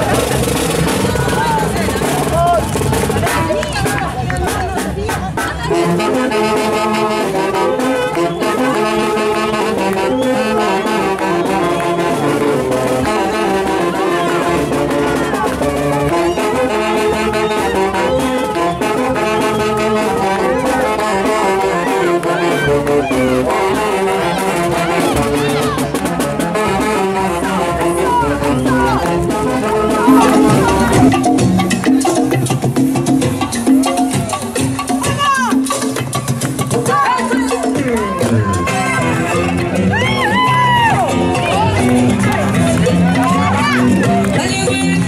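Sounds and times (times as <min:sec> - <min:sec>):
brass band playing: 0:00.0 - 0:45.0.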